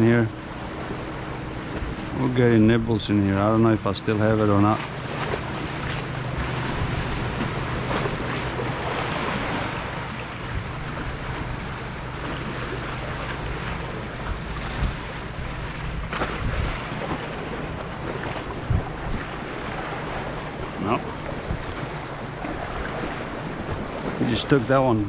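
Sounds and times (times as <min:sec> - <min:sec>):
wind buffeting microphone: 0:00.0 - 0:24.7
sea waves washing: 0:00.0 - 0:25.0
steady low hum: 0:00.0 - 0:25.0.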